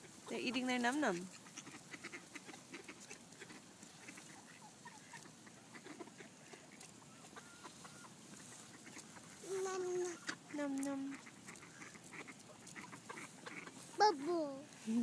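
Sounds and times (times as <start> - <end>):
ducks clucking: 0.0 - 15.0.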